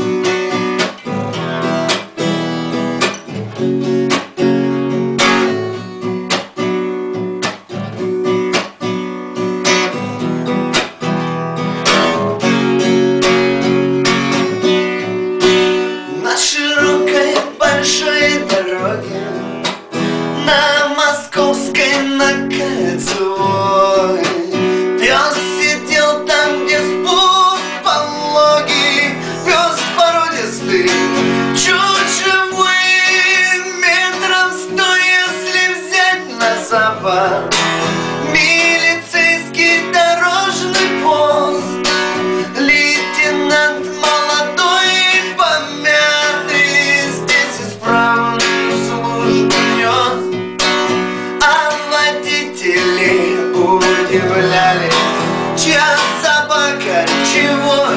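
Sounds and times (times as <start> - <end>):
man singing: 0.0 - 5.9, 11.8 - 57.9
acoustic guitar strumming: 0.0 - 57.9.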